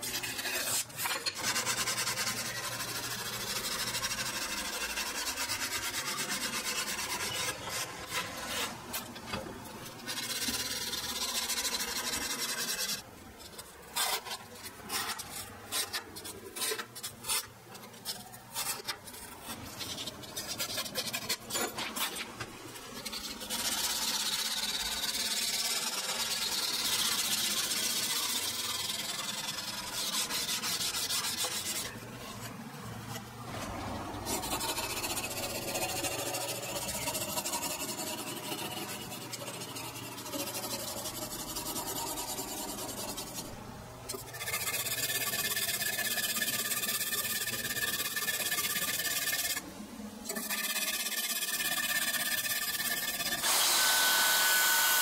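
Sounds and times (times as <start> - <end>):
sandpaper scraping metal blade: 0.0 - 9.2, 9.8 - 49.6, 50.3 - 55.0.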